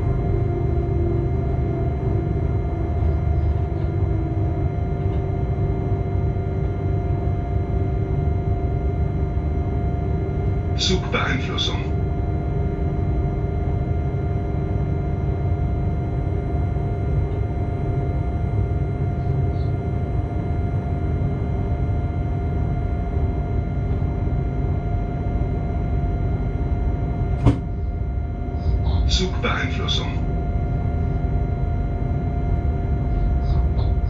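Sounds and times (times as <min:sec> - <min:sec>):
constant humming tones: 0:00.0 - 0:34.0.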